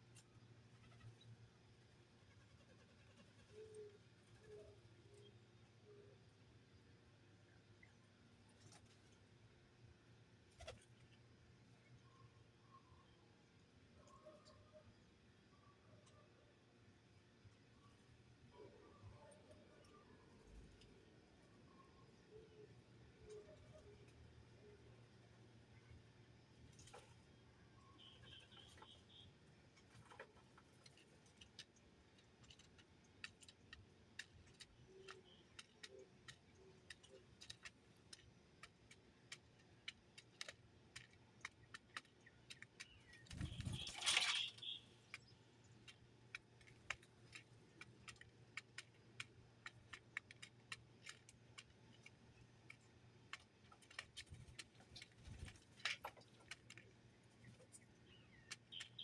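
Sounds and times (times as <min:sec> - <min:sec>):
birds pecking seed: 0:00.0 - 0:59.0.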